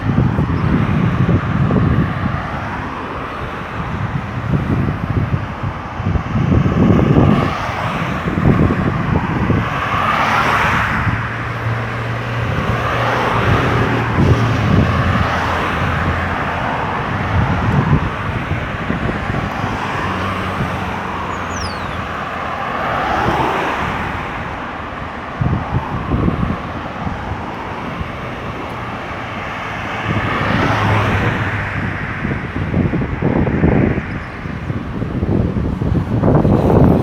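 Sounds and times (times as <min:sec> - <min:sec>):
cars passing: 0:00.0 - 0:37.0
steady traffic hum: 0:00.0 - 0:37.0.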